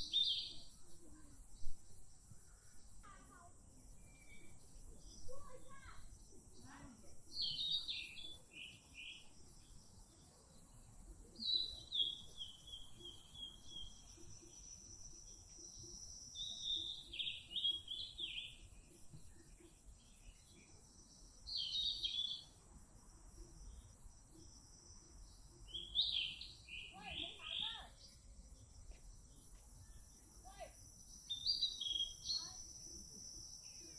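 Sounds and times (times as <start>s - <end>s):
faint outdoor background noise: 0.0s - 33.9s
small bird chirping: 0.0s - 33.9s.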